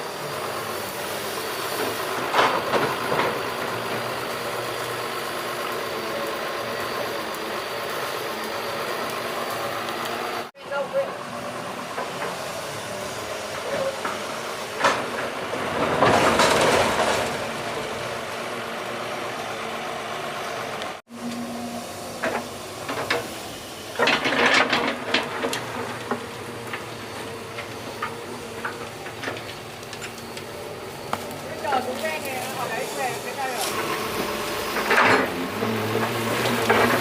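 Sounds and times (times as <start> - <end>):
hiss and scraping of digging: 0.0 - 10.5, 11.2 - 19.4, 20.4 - 37.0
excavator diesel engine running: 0.0 - 37.0.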